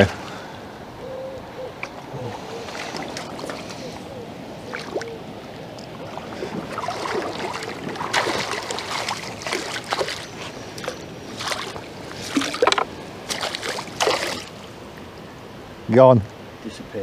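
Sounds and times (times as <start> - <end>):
river water splashing: 1.7 - 15.8.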